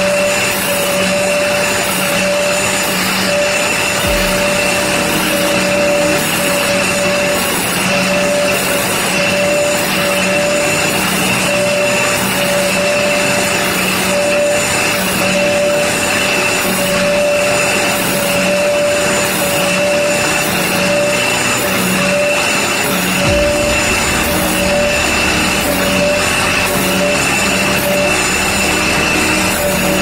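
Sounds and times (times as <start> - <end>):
angle grinder grinding saw teeth: 0.0 - 30.0.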